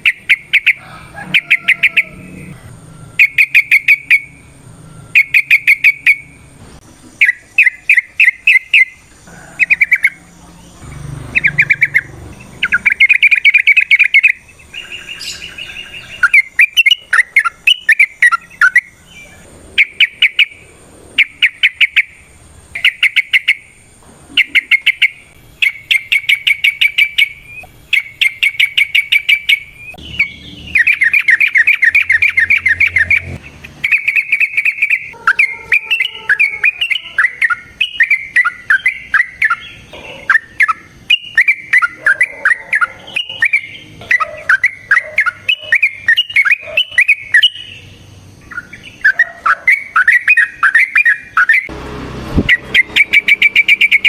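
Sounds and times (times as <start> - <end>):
bird singing in chattering bursts: 0.0 - 2.5, 3.1 - 6.5, 7.1 - 51.7, 52.4 - 54.0.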